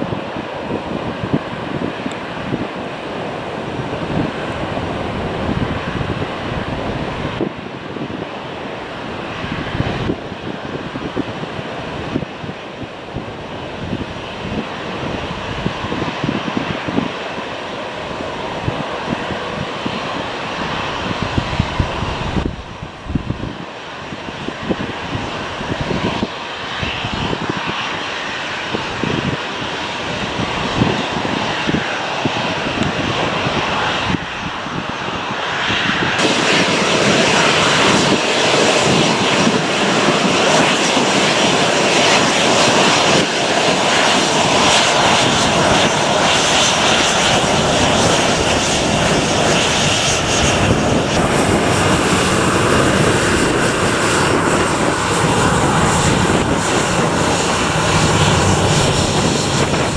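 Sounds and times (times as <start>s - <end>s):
airplane engines at takeoff power: 0.0s - 59.9s.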